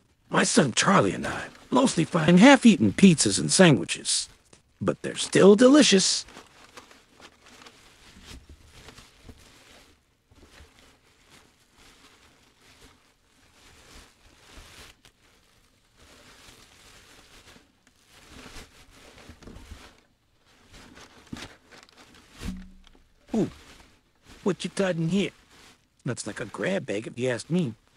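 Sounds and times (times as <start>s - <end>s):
plastic bags rustling: 0.0s - 27.9s.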